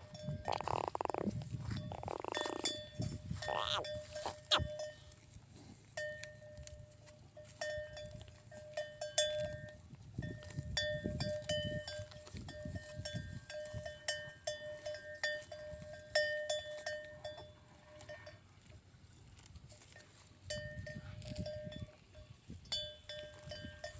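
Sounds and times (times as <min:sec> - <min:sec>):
cowbell clanking: 0:00.0 - 0:18.8, 0:19.7 - 0:23.9.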